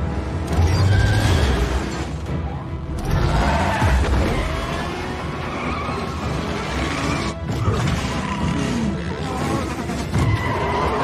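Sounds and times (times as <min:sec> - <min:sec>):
action film score: 0:00.0 - 0:11.0.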